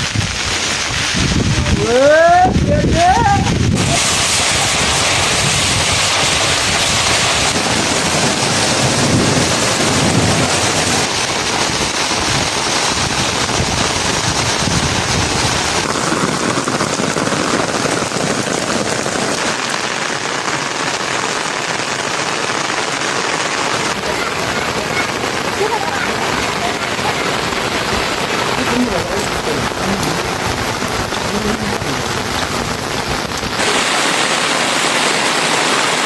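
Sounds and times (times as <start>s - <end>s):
rain spattering on surfaces: 0.0s - 36.0s.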